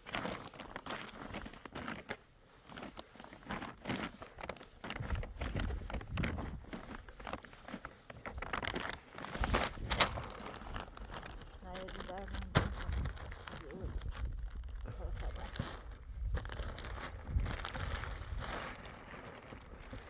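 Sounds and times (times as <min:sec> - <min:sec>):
plastic sheeting crinkling: 0:00.0 - 0:20.0.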